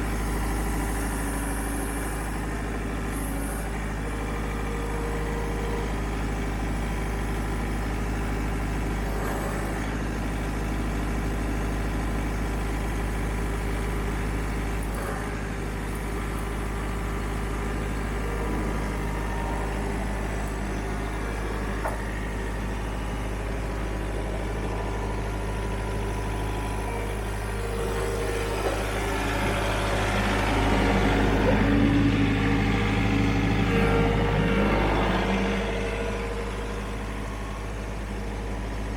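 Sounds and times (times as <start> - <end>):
small vehicle engine running: 0.0 - 38.9.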